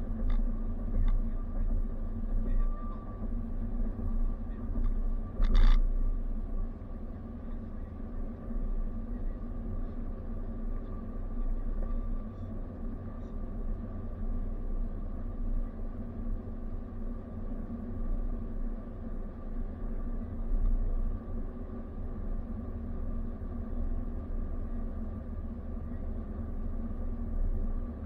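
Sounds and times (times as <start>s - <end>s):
car tyres and engine rumble: 0.0s - 28.0s
faint steady whine: 0.0s - 28.0s.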